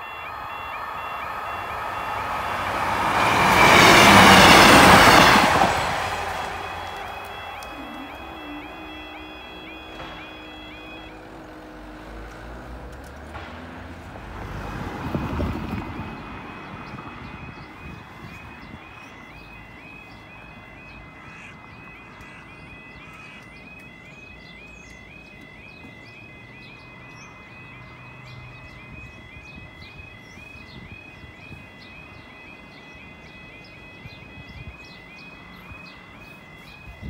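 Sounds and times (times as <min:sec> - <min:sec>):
birds chirping: 0:00.0 - 0:13.1, 0:14.7 - 0:37.0
two-tone warbling crossing alarm: 0:00.0 - 0:37.0.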